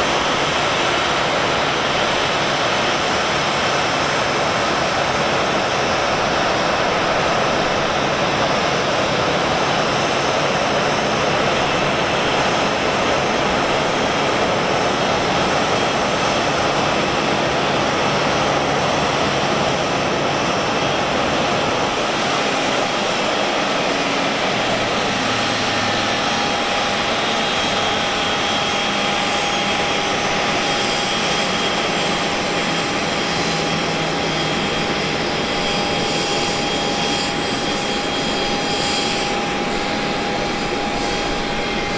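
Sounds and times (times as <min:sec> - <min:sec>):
jet engines taxiing: 0:00.0 - 0:41.9
steady whining tone: 0:00.0 - 0:41.9.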